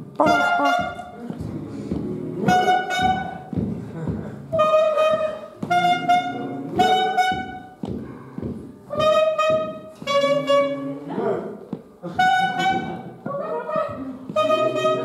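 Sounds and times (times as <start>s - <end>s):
reedy wind instrument tune: 0.0s - 3.6s, 4.4s - 7.8s, 8.9s - 11.0s, 12.1s - 15.0s.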